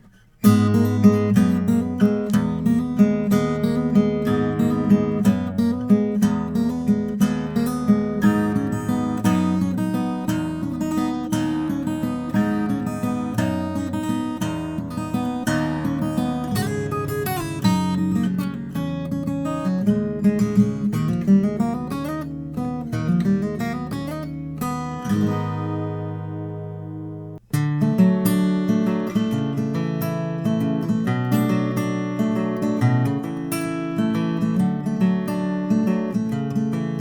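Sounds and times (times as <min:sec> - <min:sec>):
acoustic guitar picked and strummed: 0:00.0 - 0:37.0.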